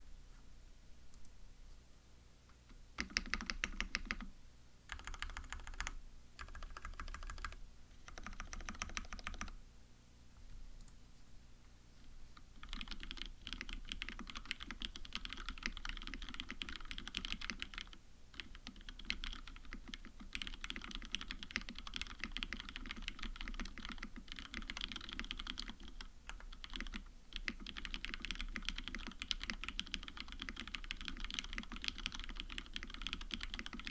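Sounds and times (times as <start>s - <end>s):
typing on mechanical keyboard: 3.0s - 4.3s, 4.9s - 9.6s, 12.6s - 33.9s.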